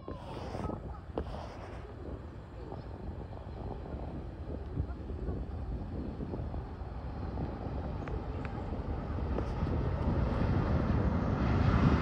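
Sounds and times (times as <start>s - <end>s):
jet engines roaring on runway: 0.0s - 12.0s.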